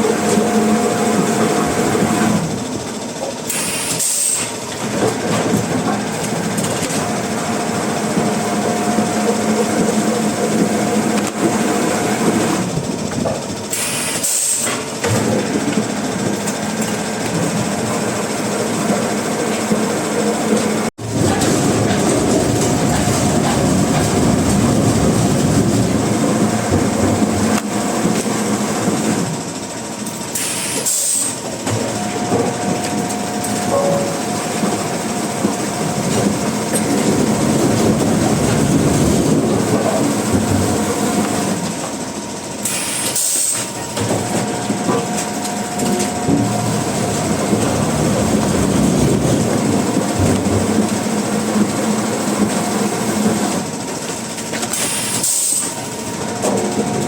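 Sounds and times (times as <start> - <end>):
sawmill machinery clattering: 0.0 - 57.0.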